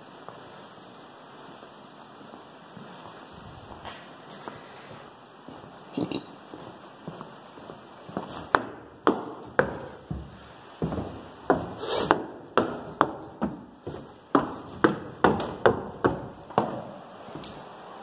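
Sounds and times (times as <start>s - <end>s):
footsteps on wooden floor: 0.2s - 17.6s.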